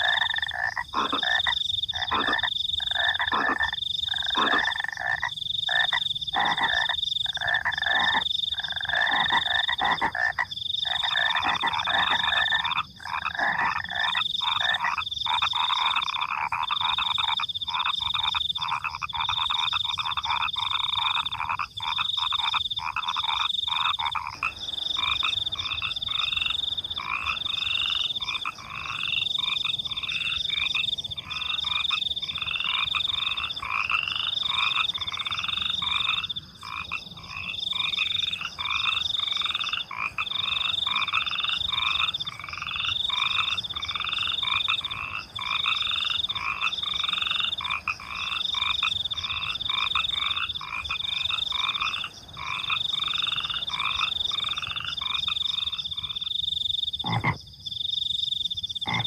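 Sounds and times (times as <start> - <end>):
crickets chirping: 0.0 - 59.0
frogs croaking: 0.0 - 59.0.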